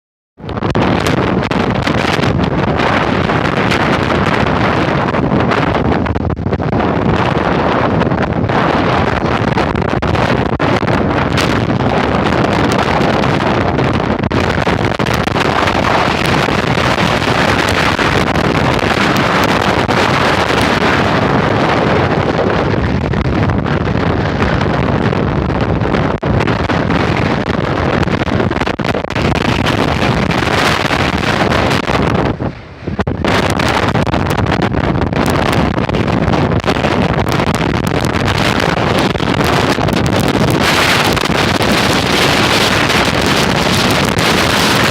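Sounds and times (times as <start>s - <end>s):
gusting wind on microphone: 0.4s - 44.9s.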